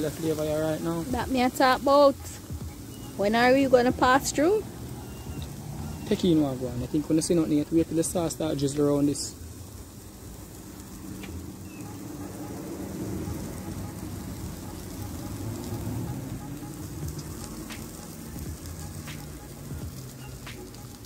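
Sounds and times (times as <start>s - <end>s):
chicken sizzling on grill: 0.0s - 21.0s
fat popping on hot coals: 0.0s - 21.0s.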